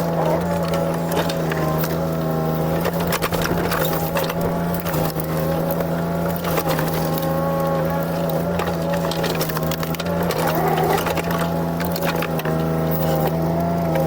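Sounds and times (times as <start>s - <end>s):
excavator diesel engine running: 0.0s - 14.0s
sharp clicks and knocks: 0.2s - 7.4s, 8.1s - 14.0s.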